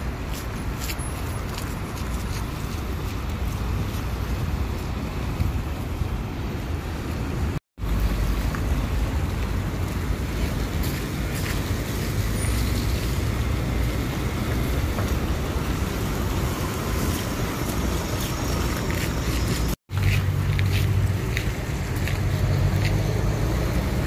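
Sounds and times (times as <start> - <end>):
buses pulling in and idling: 0.0 - 24.0
road noise: 0.0 - 24.0.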